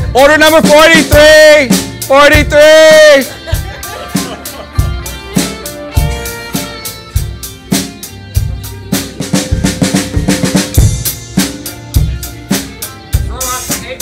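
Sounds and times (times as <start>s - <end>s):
electronic drum kit beat: 0.0s - 14.0s
rock backing track: 0.0s - 14.0s.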